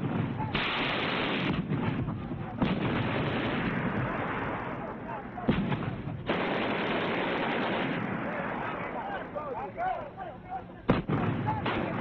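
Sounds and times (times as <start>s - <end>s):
artillery blasts: 0.0s - 9.0s, 10.9s - 12.0s
heavy gunfire: 0.0s - 9.0s, 10.9s - 12.0s.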